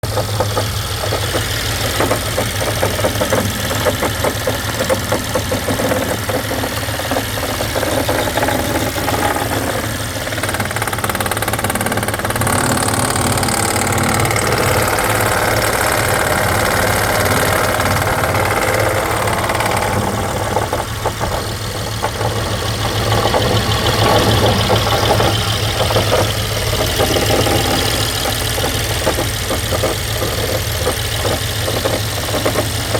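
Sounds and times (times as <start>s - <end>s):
car engine rattling: 0.0s - 32.9s.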